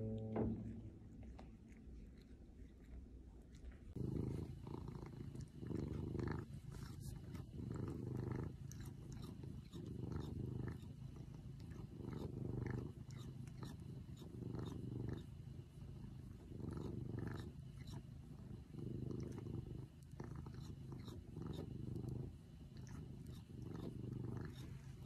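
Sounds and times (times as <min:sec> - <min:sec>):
cat purring loudly: 0:00.0 - 0:25.0.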